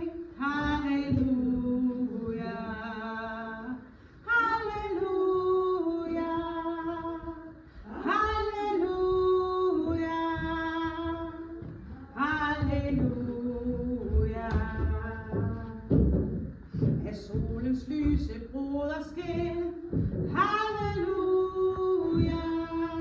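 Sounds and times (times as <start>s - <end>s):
woman singing wordless hymn: 0.0s - 23.0s.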